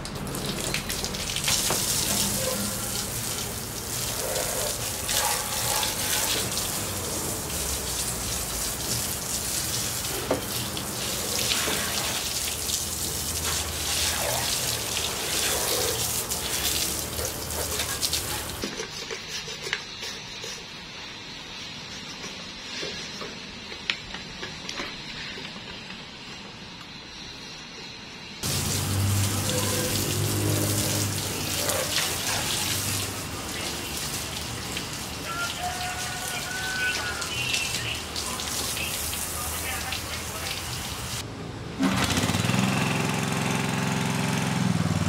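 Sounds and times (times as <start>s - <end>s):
liquid spraying and hissing: 0.0s - 26.3s, 28.4s - 41.2s.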